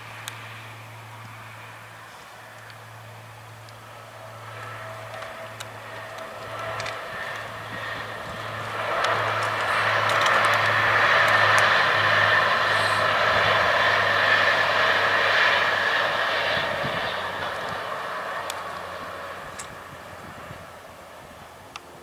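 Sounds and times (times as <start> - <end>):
train passing: 0.0 - 22.0.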